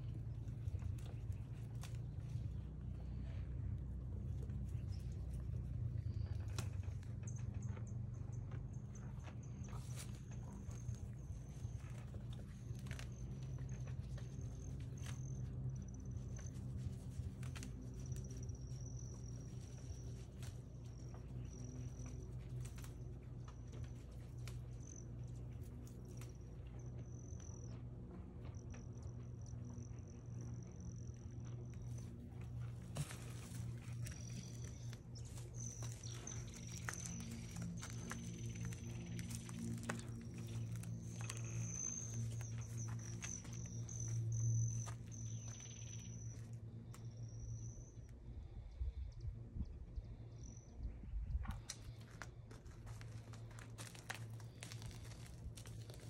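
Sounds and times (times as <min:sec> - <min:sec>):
moose chewing leaves: 0:00.0 - 0:26.7, 0:31.4 - 0:47.1, 0:51.6 - 0:56.0
steady low hum: 0:00.0 - 0:56.0.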